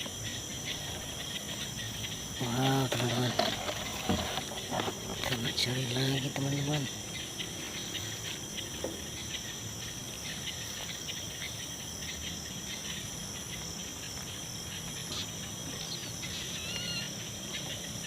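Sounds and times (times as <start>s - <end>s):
crickets trilling: 0.0s - 18.0s
short insect chirps: 0.0s - 18.0s.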